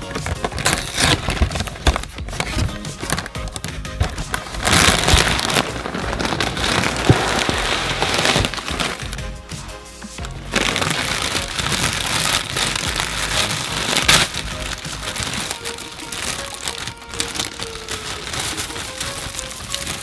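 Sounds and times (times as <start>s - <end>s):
quiet background music: 0.0s - 20.0s
snack packaging crinkling: 0.0s - 20.0s.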